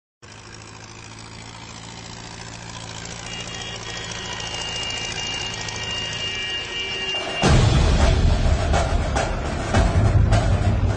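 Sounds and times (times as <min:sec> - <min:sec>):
tractor engines humming: 0:00.2 - 0:10.9.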